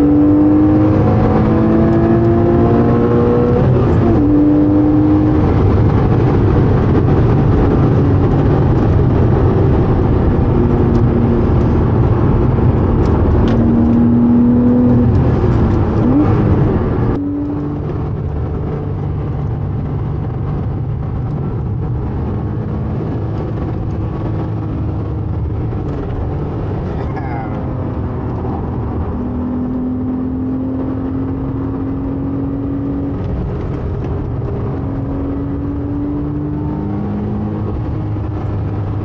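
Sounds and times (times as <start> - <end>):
car engine under load: 0.0 - 39.0
heavy road noise: 0.0 - 39.0.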